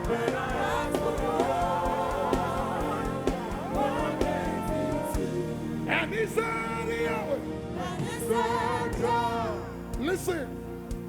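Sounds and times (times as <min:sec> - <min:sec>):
keyboard chords: 0:00.0 - 0:11.0
sustained singing: 0:00.0 - 0:11.0.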